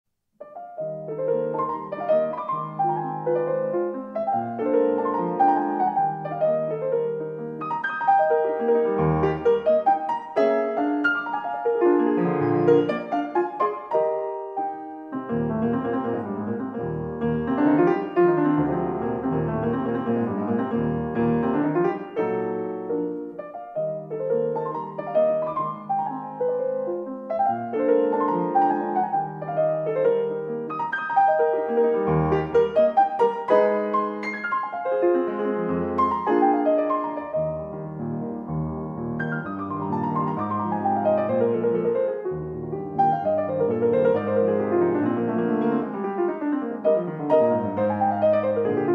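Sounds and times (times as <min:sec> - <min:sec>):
piano music: 0:00.4 - 0:48.9.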